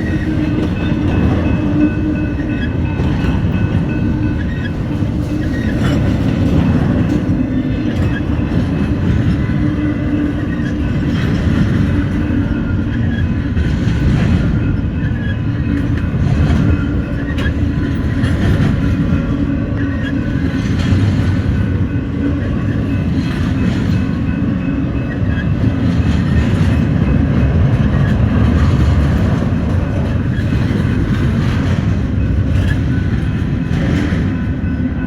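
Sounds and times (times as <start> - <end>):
freight train cars rumbling: 0.0 - 35.0
wheels clacking over rail joints: 0.0 - 35.0.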